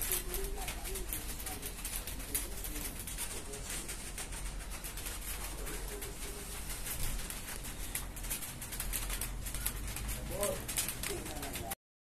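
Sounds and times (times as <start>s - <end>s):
pigeon cooing: 0.0s - 11.8s.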